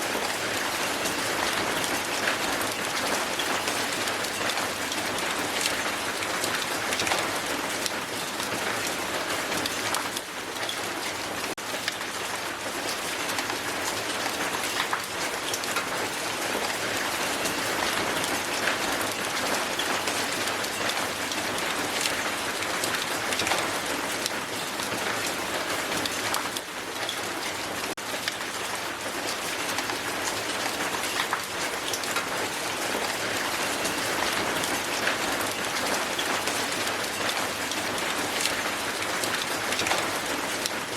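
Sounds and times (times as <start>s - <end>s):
hail striking a hard surface: 0.0s - 40.9s.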